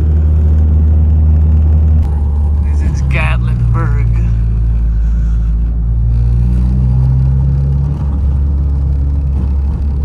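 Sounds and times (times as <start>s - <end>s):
car engine drone inside cabin: 0.0s - 10.0s.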